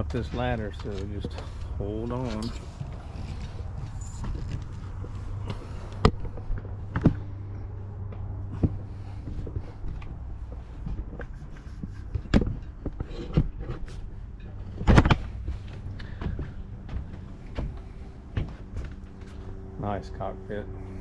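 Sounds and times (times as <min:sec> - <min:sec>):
footsteps and knocks on boat ladder: 0:00.0 - 0:19.7
low steady hum: 0:00.0 - 0:21.0.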